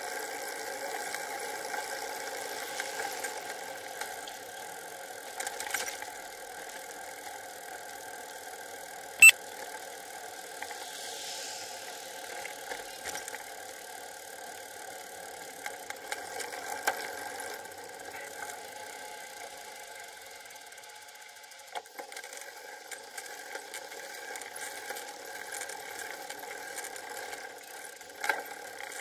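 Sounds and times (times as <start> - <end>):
bicycle road vibration noise: 0.0 - 29.0.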